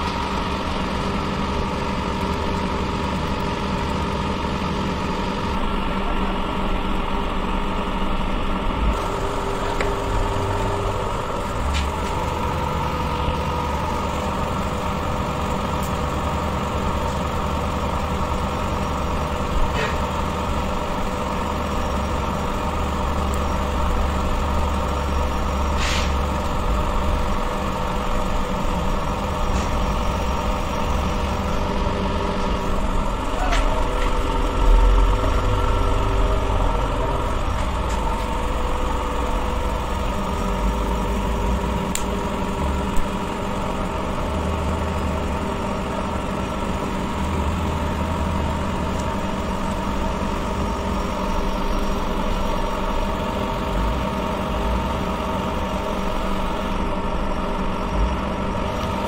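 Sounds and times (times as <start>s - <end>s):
engine humming steadily: 0.0s - 59.0s.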